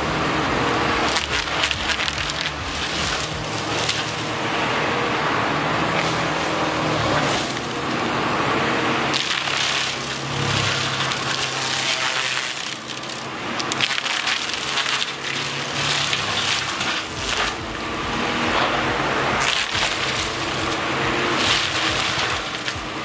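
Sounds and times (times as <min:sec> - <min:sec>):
excavator engine: 0:00.0 - 0:23.0
spinning disc mulcher drone: 0:00.0 - 0:23.0
wood cracking and splintering: 0:00.0 - 0:23.0.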